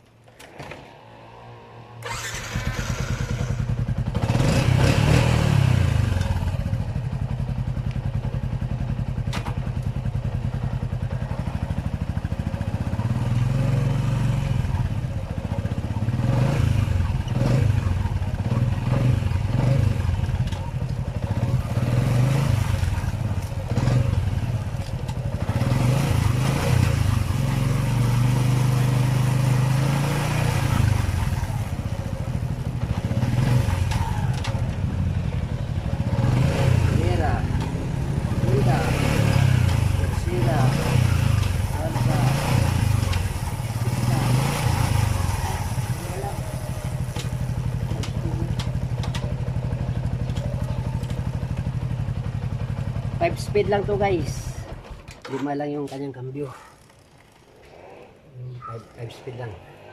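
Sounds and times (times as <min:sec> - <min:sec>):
motorcycle engine revving: 0:00.5 - 0:59.9.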